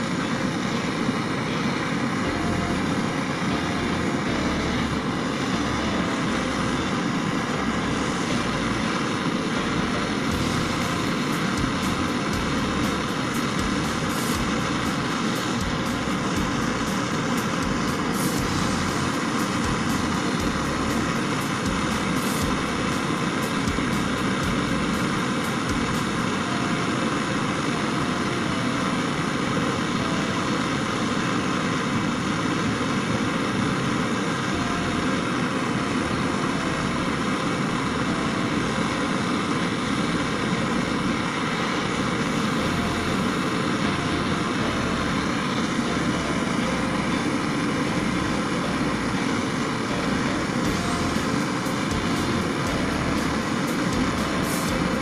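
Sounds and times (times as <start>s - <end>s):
steady machine noise: 0.0s - 55.0s.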